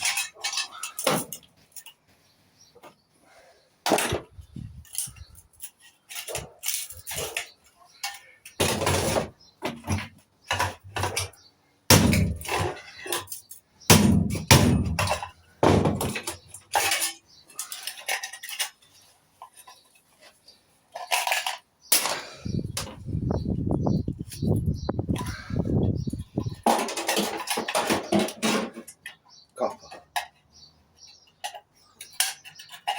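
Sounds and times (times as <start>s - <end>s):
metal parts clattering and knocking: 0.0s - 2.1s, 3.9s - 23.1s, 25.1s - 32.9s.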